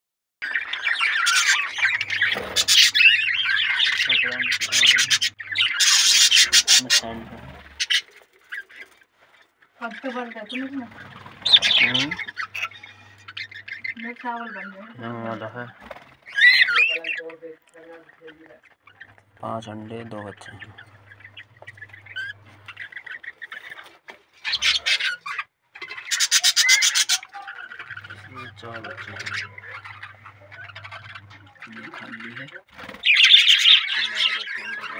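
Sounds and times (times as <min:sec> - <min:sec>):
budgerigars chattering: 0:00.4 - 0:34.9
harsh rapid bird calls: 0:00.4 - 0:34.9.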